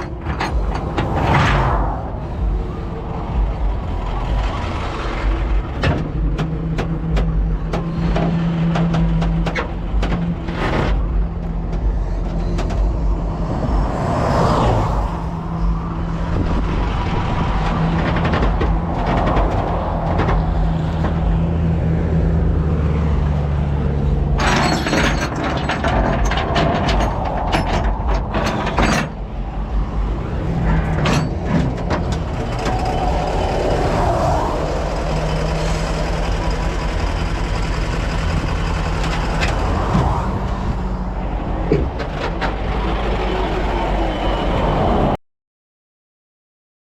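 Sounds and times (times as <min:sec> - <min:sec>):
truck engine running: 0:00.0 - 0:14.0, 0:15.0 - 0:44.5.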